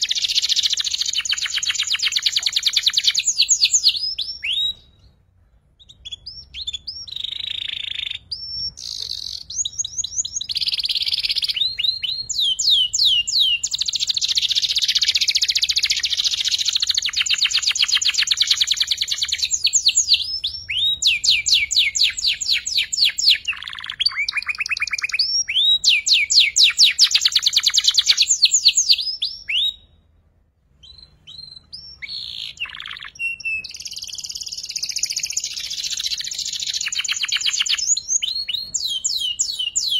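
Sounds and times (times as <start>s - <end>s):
canary singing trills: 0.0s - 30.0s, 30.8s - 39.9s.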